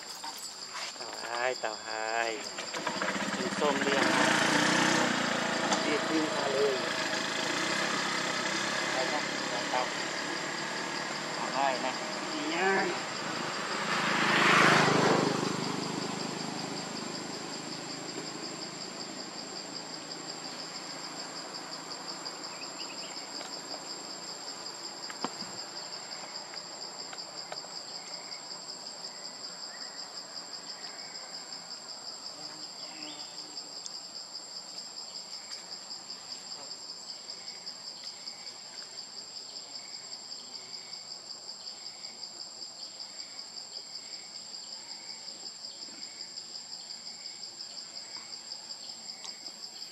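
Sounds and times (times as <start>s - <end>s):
insect chorus pulsing trill: 0.0s - 49.9s.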